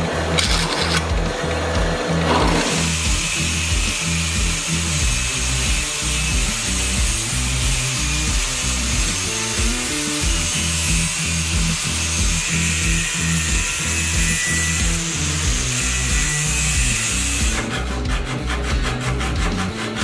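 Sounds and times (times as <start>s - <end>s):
angle grinder cutting steel: 0.0s - 20.0s
background music with beat: 0.2s - 19.8s.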